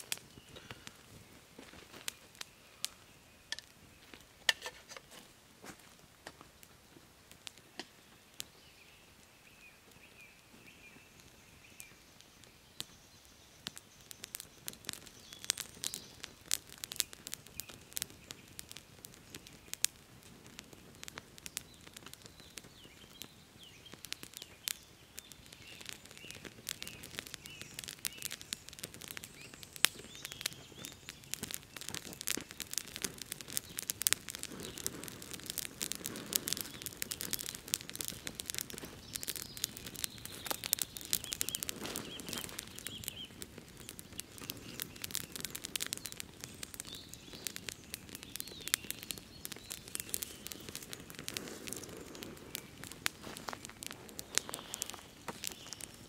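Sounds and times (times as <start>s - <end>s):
small birds chirping: 0.0s - 5.2s, 6.3s - 56.0s
wood fire crackling and popping: 0.0s - 56.0s.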